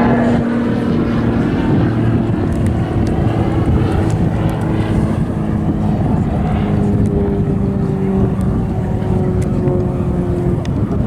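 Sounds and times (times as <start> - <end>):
propeller aircraft engine: 0.0 - 11.0
wind noise on microphone: 0.0 - 11.0.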